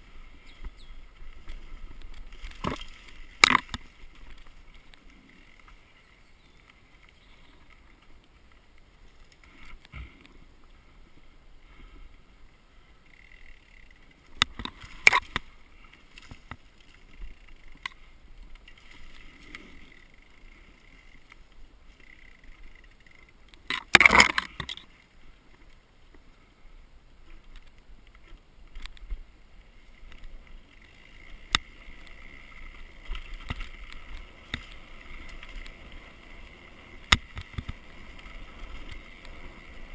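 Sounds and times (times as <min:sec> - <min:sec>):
bike rattling over bumps: 0:00.0 - 0:10.4, 0:12.0 - 0:25.0, 0:27.3 - 0:39.9
tyre and trail noise: 0:00.0 - 0:39.9.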